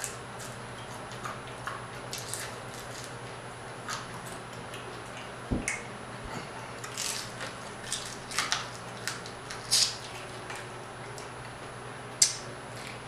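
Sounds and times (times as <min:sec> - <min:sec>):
eating crunchy food: 0:00.0 - 0:13.0
low steady hum: 0:00.0 - 0:13.0.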